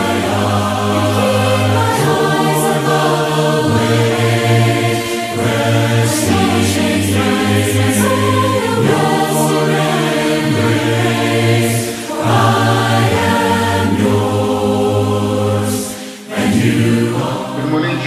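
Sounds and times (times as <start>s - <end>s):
choir singing a hymn: 0.0s - 18.0s.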